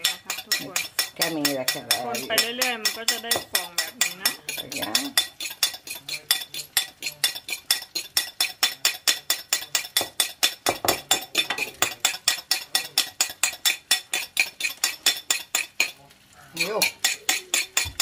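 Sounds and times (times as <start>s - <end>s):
fork clinking against plate: 0.0s - 18.0s.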